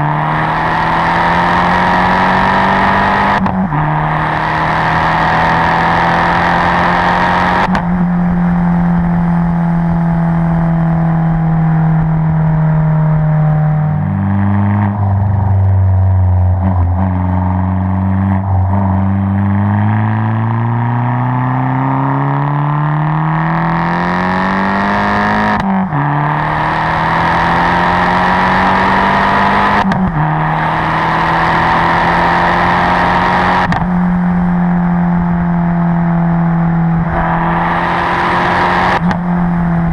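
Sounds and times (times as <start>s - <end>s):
car engine accelerating in cabin: 0.0s - 39.9s.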